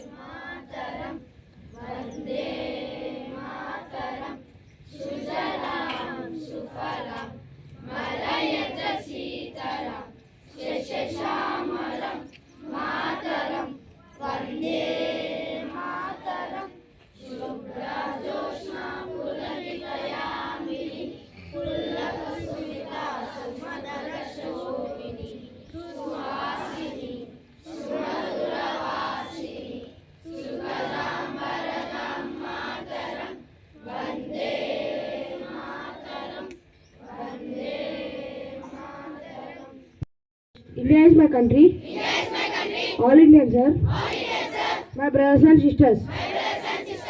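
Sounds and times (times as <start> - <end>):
children singing in unison: 0.0 - 40.0, 41.8 - 43.0, 43.9 - 45.0, 46.1 - 47.0.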